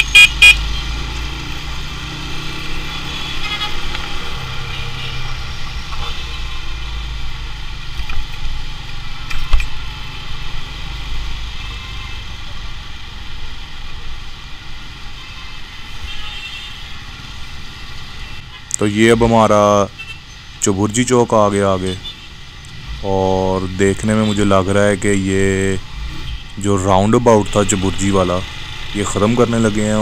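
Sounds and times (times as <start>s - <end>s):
road noise and traffic: 0.0s - 30.0s.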